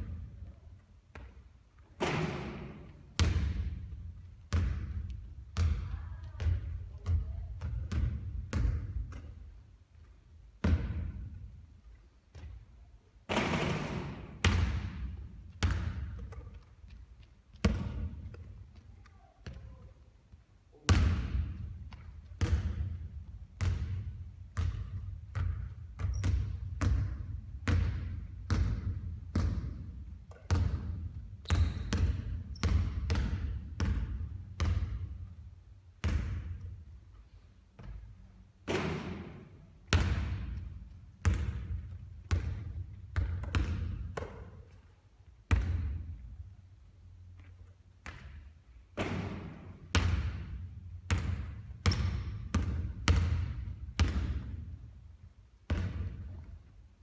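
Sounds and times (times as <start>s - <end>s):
basketball bouncing on hard court: 1.1s - 1.4s, 2.0s - 9.5s, 10.6s - 11.5s, 13.3s - 20.0s, 20.9s - 36.9s, 37.8s - 44.8s, 45.5s - 46.4s, 47.3s - 54.9s, 55.6s - 56.6s.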